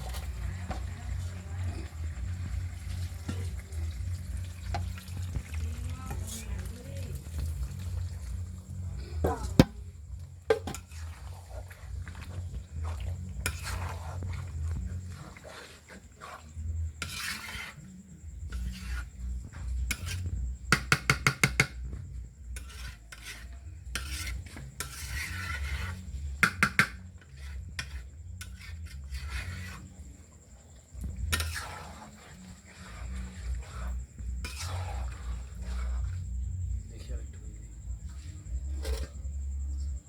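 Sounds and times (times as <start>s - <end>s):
metal utensils scraping a pan: 0.0s - 36.6s, 38.0s - 39.5s.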